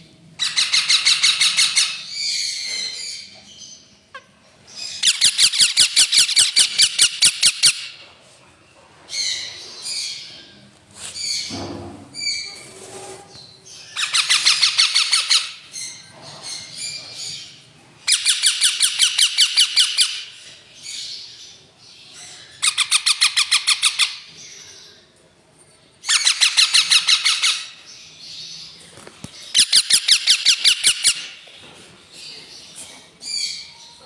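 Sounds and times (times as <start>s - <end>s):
birds rattling squawks: 0.4s - 8.1s, 8.9s - 34.0s.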